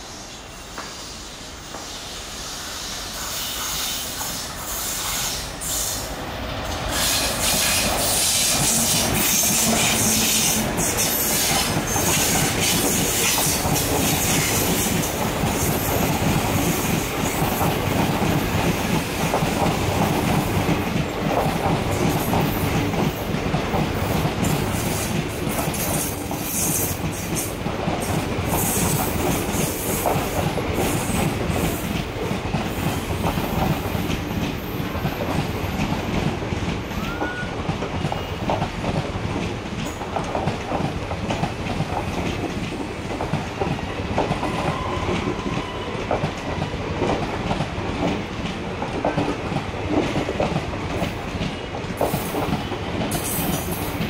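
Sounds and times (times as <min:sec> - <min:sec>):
diesel locomotive passing: 0:00.0 - 0:54.0
train wheels clattering on rails: 0:02.8 - 0:54.0.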